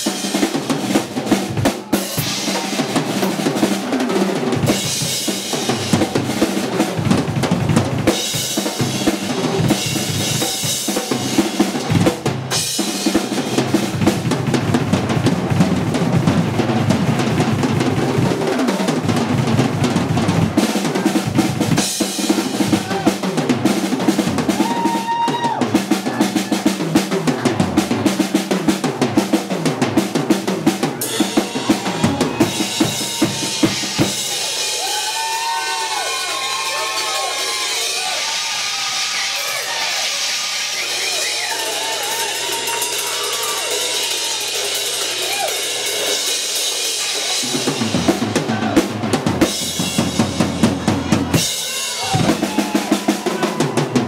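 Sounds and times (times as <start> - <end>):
drums played rapidly: 0.0 - 54.0.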